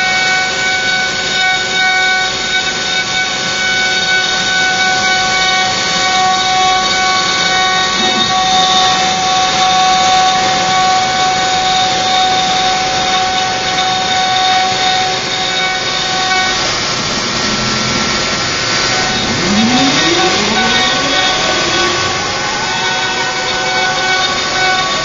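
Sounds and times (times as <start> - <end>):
rising whine: 0.0 - 25.0
router bit cutting wood: 0.0 - 25.0
router spindle whine: 0.0 - 25.0.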